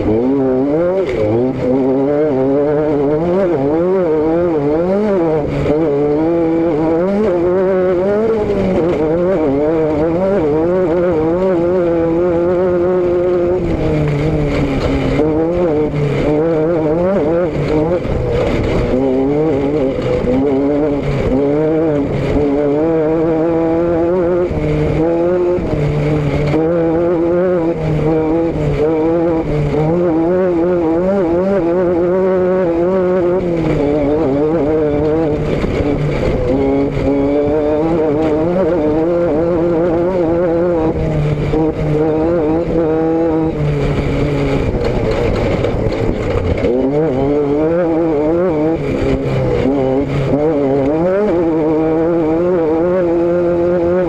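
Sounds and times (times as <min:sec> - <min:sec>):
vehicle engine revving: 0:00.0 - 0:54.0
wind rushing over microphone: 0:00.0 - 0:54.0.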